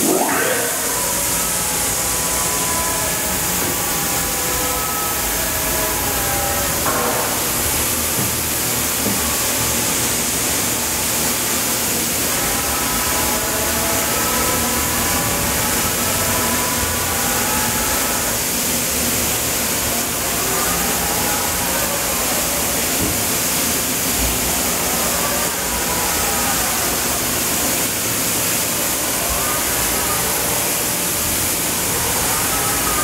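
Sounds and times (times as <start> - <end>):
machinery hissing: 0.0 - 33.0.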